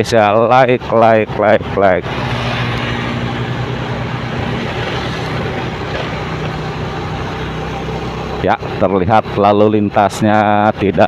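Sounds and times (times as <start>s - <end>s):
wind and road noise: 0.0s - 11.0s
motorcycle engine running: 0.2s - 11.0s.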